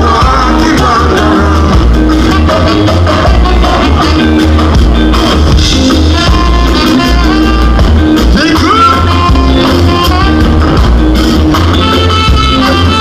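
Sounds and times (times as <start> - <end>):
heavy bass line: 0.0 - 13.0
horn section: 0.0 - 13.0
ska band playing: 0.0 - 13.0.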